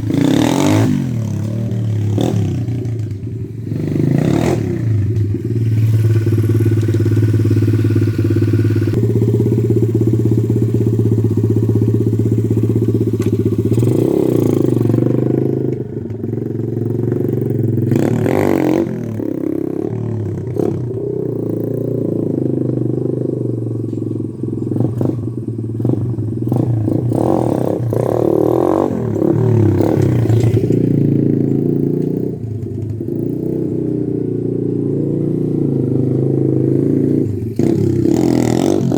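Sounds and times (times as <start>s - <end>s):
pit bike engine revving: 0.0s - 23.9s, 24.5s - 38.9s.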